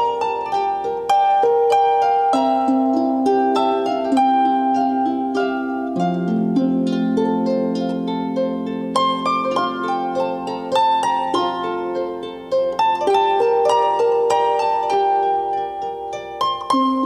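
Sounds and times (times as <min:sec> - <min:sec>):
solo harp playing: 0:00.0 - 0:17.0.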